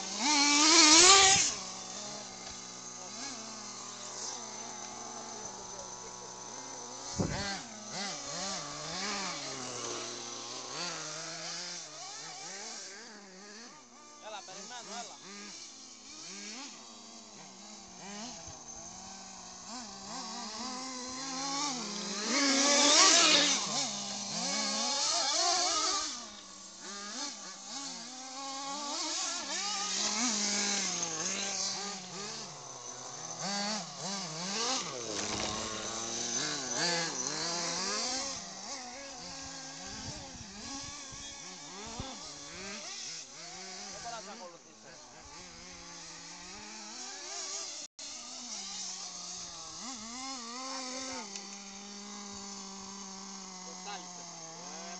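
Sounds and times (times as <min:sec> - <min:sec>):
remote-controlled car engines whining: 0:00.0 - 0:54.9.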